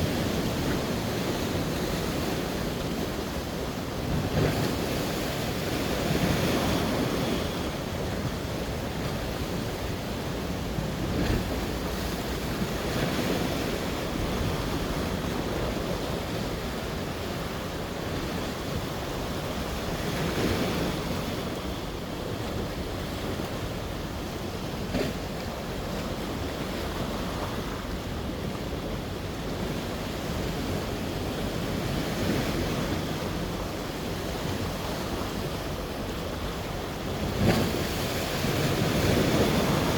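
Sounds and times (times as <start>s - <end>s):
sea waves breaking: 0.0s - 39.9s
wind buffeting microphone: 0.0s - 39.9s.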